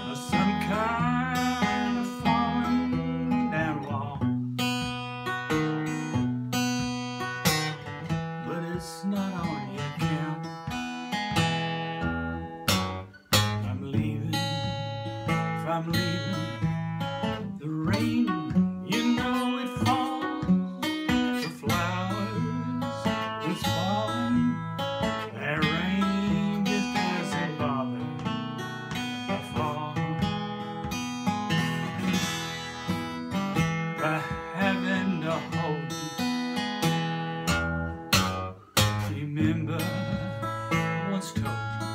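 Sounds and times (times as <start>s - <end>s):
man singing: 0.0s - 4.4s, 7.4s - 37.7s, 38.4s - 41.9s
acoustic guitar: 0.0s - 41.9s.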